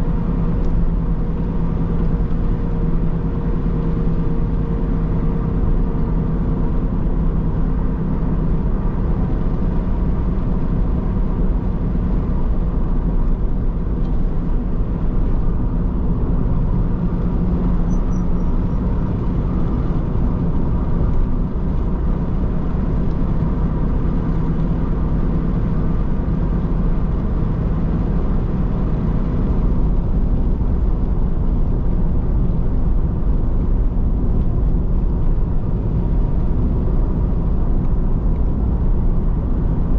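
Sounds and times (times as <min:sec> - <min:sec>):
car driving: 0:00.0 - 0:39.9.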